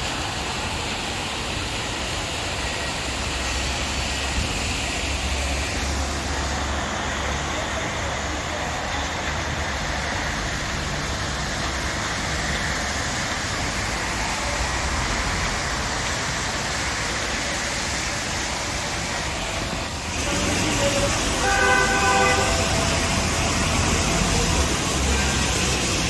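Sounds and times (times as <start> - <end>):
steady rain: 0.0 - 26.0
traffic on wet roads: 0.0 - 26.0
wind: 0.0 - 26.0.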